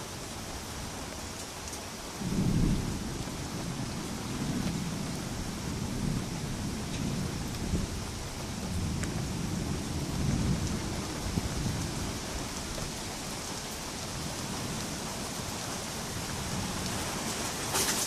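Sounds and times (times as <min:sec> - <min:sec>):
steady rain: 0:00.0 - 0:18.0
low rolling thunder: 0:02.2 - 0:17.8.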